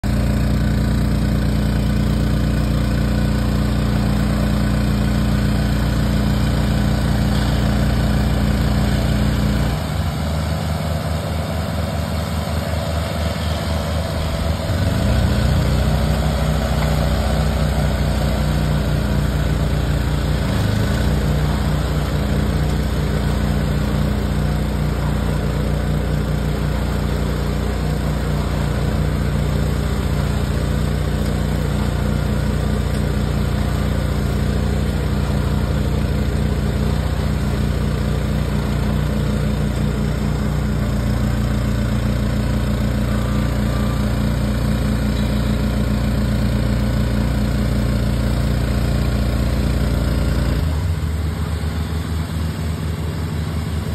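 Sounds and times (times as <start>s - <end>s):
tractor and bale wrapper engines: 0.0s - 53.9s.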